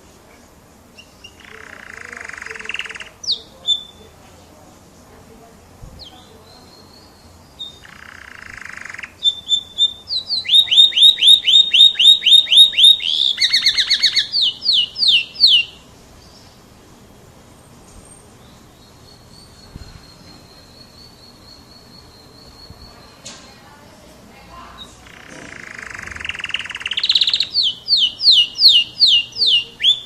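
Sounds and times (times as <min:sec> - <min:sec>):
canary singing: 0:00.8 - 0:04.5, 0:05.1 - 0:30.0.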